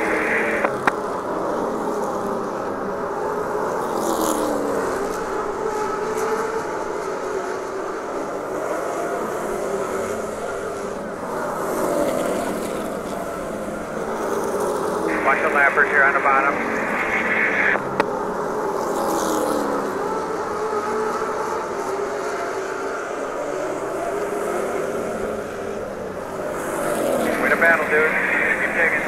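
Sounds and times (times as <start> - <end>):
race car engine: 0.0 - 29.0.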